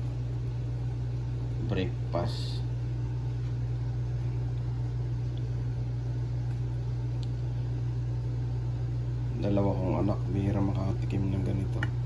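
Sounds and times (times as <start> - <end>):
machine humming and hissing: 0.0 - 12.0.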